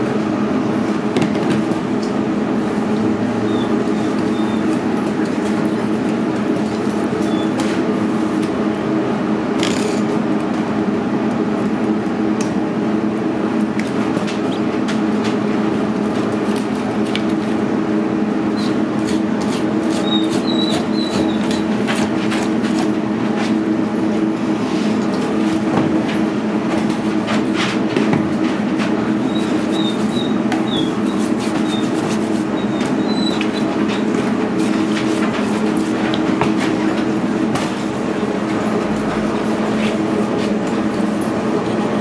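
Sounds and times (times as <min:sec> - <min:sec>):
mechanical hum: 0:00.0 - 0:42.0.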